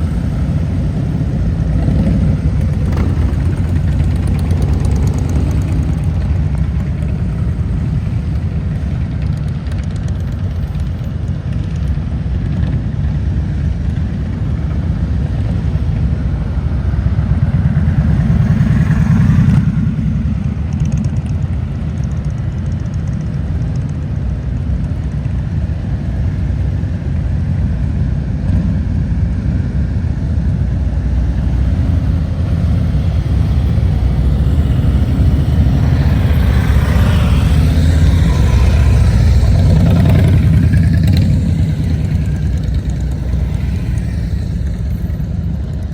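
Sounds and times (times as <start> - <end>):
motorcycle engines rumbling: 0.0 - 45.9.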